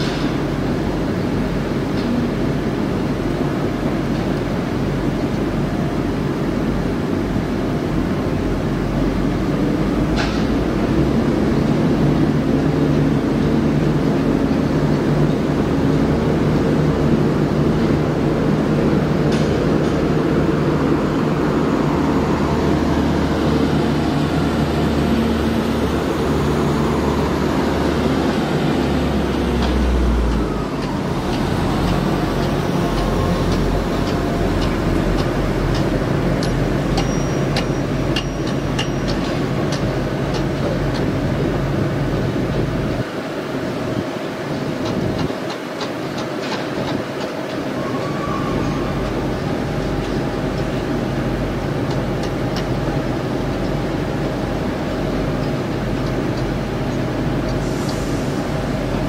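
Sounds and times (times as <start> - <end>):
train power equipment humming: 0.0 - 59.0.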